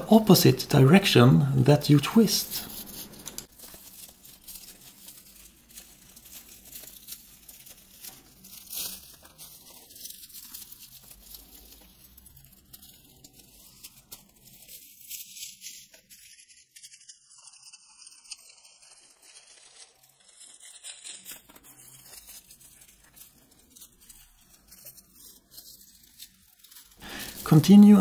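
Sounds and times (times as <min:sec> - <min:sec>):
dry fibres rustling and crackling: 0:00.0 - 0:28.0.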